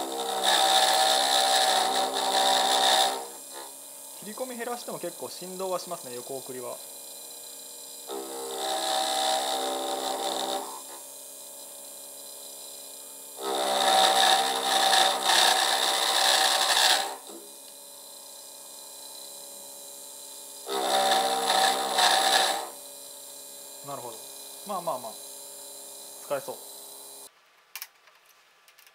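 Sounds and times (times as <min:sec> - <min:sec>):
milling cutter chattering buzz: 0:00.0 - 0:27.3.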